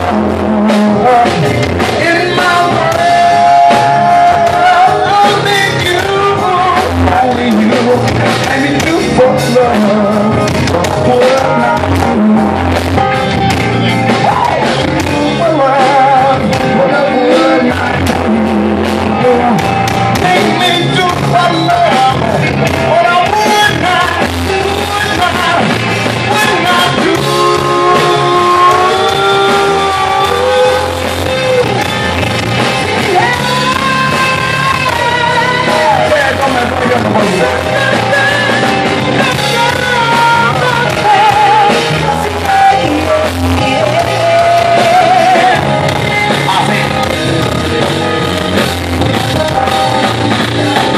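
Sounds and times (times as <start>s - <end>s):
blues rock band playing: 0.0s - 50.9s
man singing: 0.0s - 50.9s.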